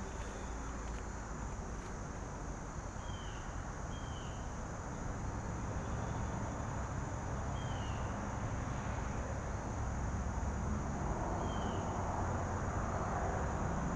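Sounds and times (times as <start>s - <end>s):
high insect drone: 0.0s - 13.9s.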